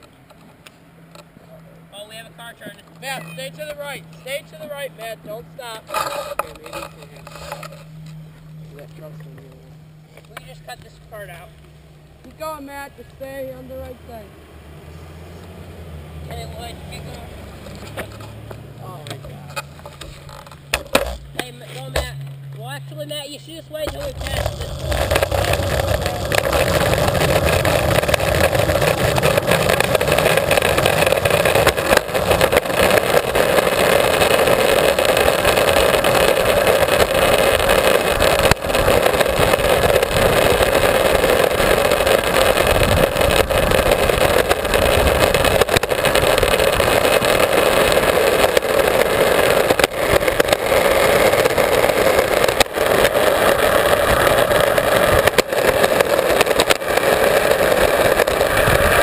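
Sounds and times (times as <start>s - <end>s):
longboard wheels rolling on asphalt: 0.0s - 59.0s.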